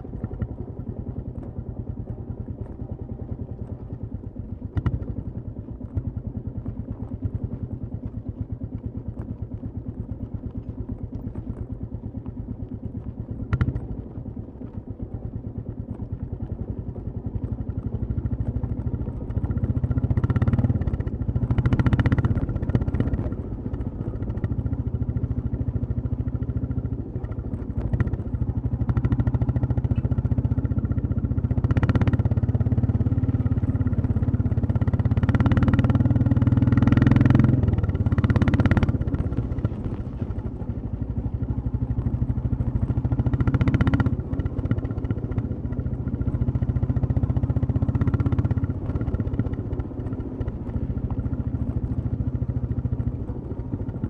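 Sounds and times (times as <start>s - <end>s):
motorcycle engine and exhaust: 0.0s - 54.0s.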